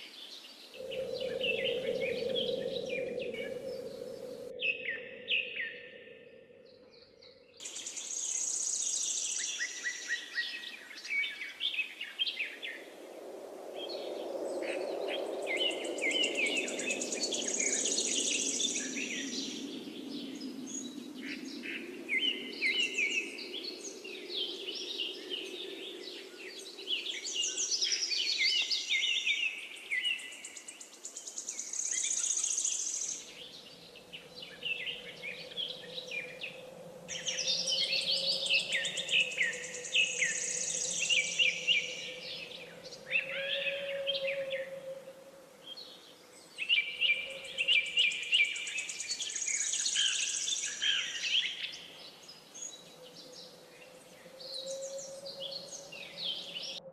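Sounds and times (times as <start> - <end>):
small birds chirping: 0.0 - 12.8, 15.5 - 44.2, 45.7 - 56.9.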